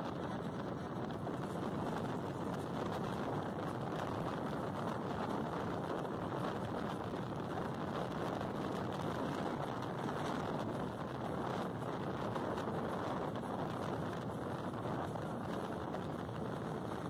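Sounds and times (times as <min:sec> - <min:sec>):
van engine and road noise: 0:00.0 - 0:17.0.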